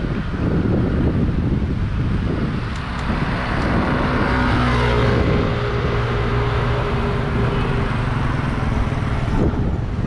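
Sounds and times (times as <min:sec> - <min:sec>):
car engine hum passing: 0:00.2 - 0:10.0.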